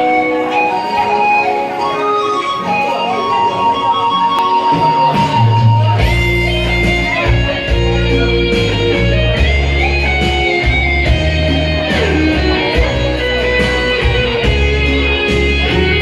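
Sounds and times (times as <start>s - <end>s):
bass line: 0.0s - 16.0s
electric guitar: 0.0s - 16.0s.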